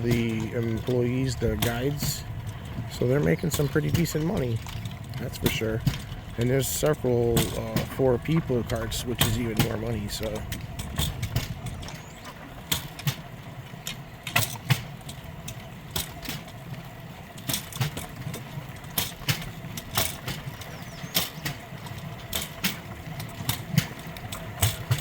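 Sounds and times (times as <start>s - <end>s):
metal wheels rumbling on rails: 0.0s - 25.0s
wheels clacking over rail joints: 0.0s - 25.0s.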